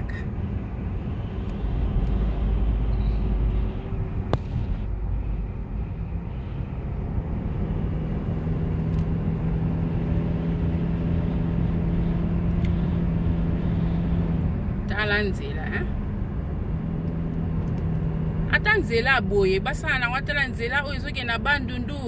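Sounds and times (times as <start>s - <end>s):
low hum: 0.0s - 18.8s
car engine and tyres rumbling: 0.0s - 22.0s.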